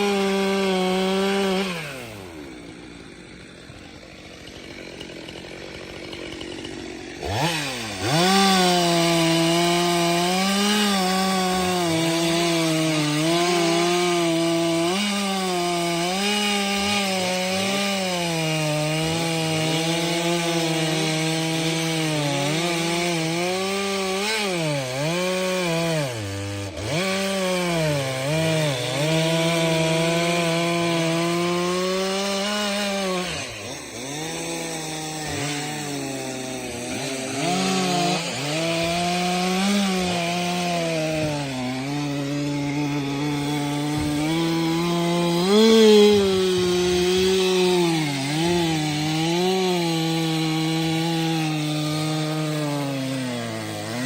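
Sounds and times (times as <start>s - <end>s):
chainsaw cutting wood: 0.0s - 54.0s
chainsaw idling and revving: 0.0s - 54.0s.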